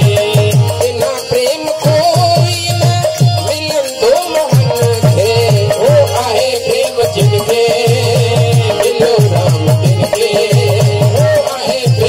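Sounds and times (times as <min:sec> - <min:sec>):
harmonium: 0:00.0 - 0:12.0
small cymbals jingling: 0:00.0 - 0:12.0.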